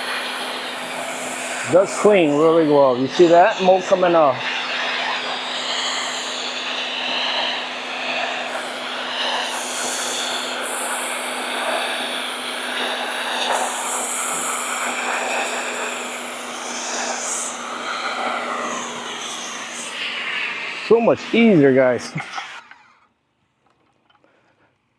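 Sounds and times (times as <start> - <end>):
water spray hissing on siding: 0.0 - 22.7
pressure washer motor hum: 0.0 - 23.0.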